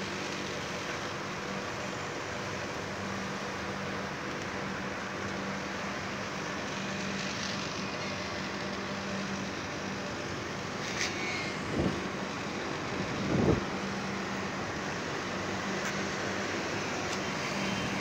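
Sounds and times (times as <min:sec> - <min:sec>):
constant hiss: 0:00.0 - 0:18.0.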